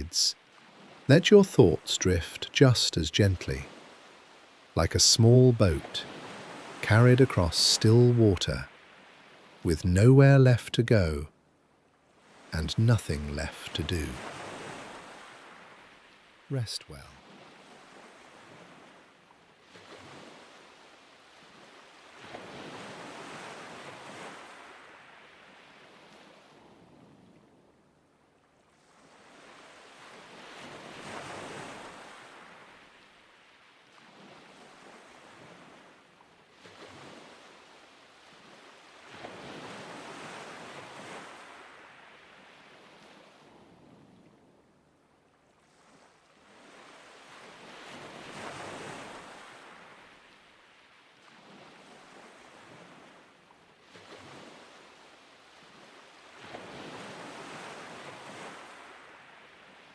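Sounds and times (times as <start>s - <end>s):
ocean waves washing in: 0.0s - 11.4s, 12.0s - 27.8s, 28.7s - 44.7s, 45.4s - 59.9s.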